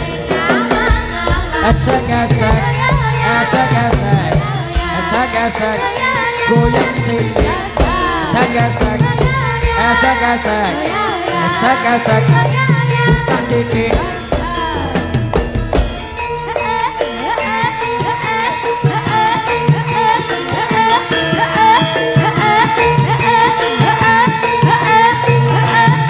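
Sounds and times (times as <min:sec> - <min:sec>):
drumming: 0:00.0 - 0:26.0
pitch-bending melody: 0:00.0 - 0:26.0.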